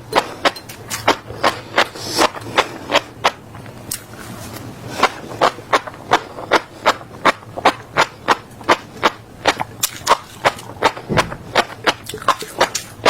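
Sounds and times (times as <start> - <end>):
seeds crunching being chewed: 0.0 - 13.0.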